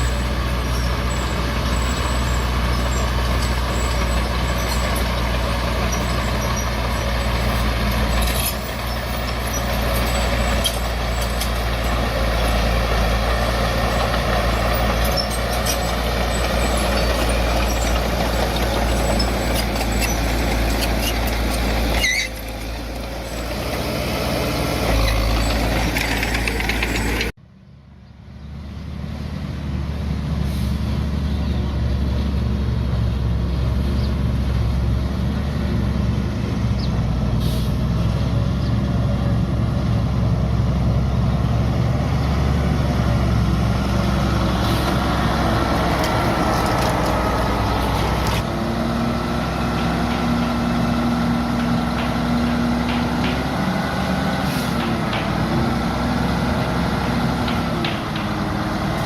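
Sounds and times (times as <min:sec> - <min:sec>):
diesel machinery running: 0:00.0 - 0:59.0
quieter engine: 0:00.0 - 0:59.0.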